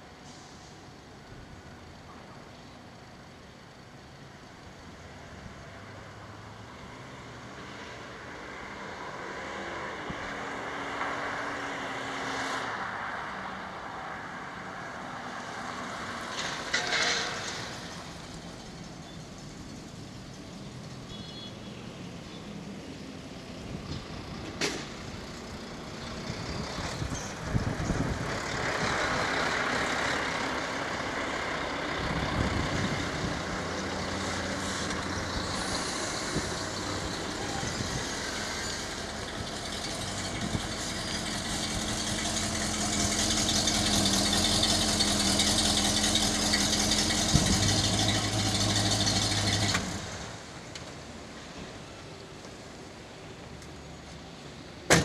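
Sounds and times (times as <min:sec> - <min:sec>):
truck passing: 0:04.8 - 0:21.0, 0:22.0 - 0:51.6.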